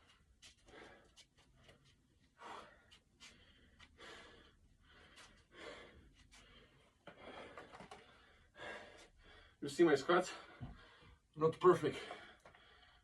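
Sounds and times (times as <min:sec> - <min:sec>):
man breathing hard: 0:00.0 - 0:09.6, 0:10.2 - 0:11.3, 0:11.9 - 0:13.0.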